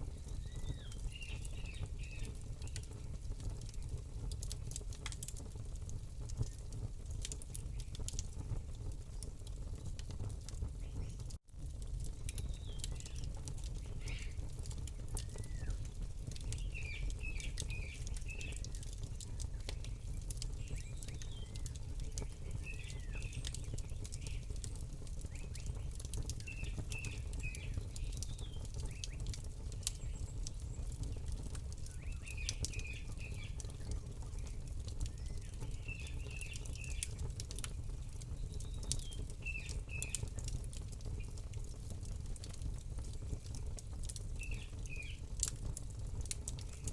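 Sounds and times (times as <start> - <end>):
small birds chirping: 0.0 - 4.5, 6.3 - 10.1, 10.7 - 11.4, 12.1 - 41.5, 42.4 - 45.5, 46.2 - 46.9
campfire crackling and popping: 0.0 - 46.9.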